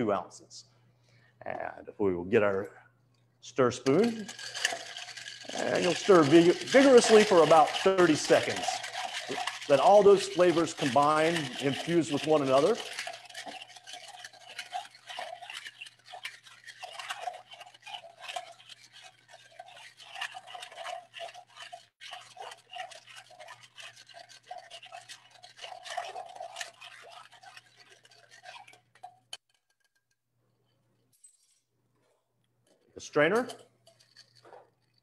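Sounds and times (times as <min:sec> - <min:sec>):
ice rattling in metal shaker: 0:03.8 - 0:30.1, 0:33.0 - 0:35.0.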